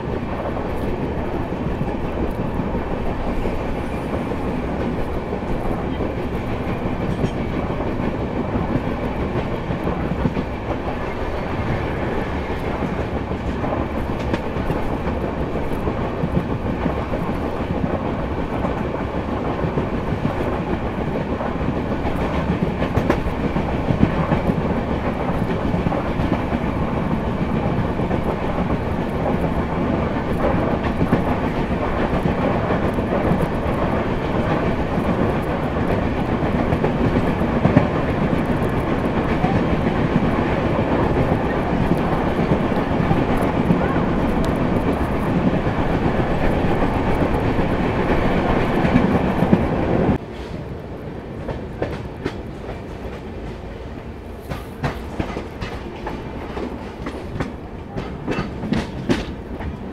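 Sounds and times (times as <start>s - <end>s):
train wheels clicking on rails: 0.0s - 59.9s.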